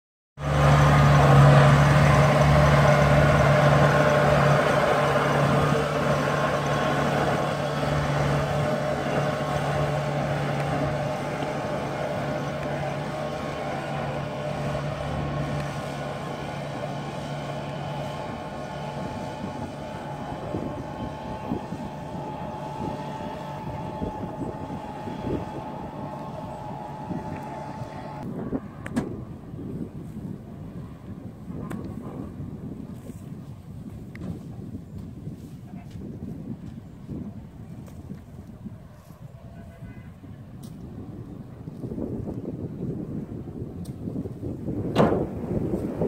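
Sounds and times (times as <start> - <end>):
combine harvester engine hum: 0.4 - 46.0.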